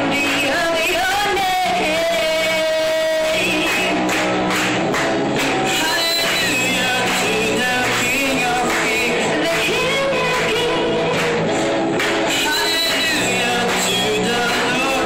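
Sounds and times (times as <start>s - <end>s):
woman singing into microphone: 0.0s - 4.1s, 5.7s - 11.7s, 12.3s - 15.0s
keyboard and guitar band: 0.0s - 15.0s.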